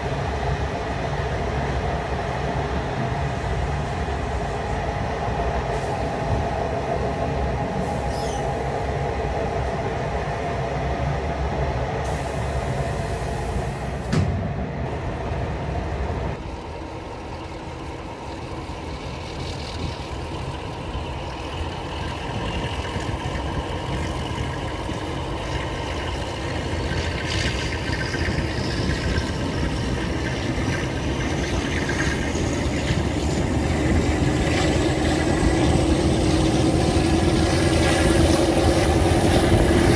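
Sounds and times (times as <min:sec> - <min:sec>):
train wheels and engine rumbling: 0:00.0 - 0:39.9.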